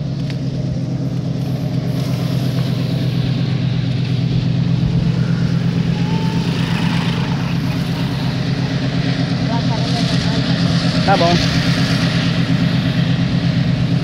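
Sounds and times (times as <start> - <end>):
diesel locomotive engine drone: 0.0 - 14.0
rail and wheel noise: 0.0 - 14.0.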